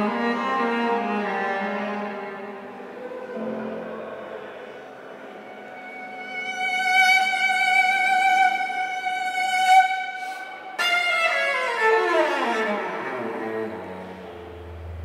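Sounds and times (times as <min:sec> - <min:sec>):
cello playing: 0:00.0 - 0:04.0, 0:05.2 - 0:15.0.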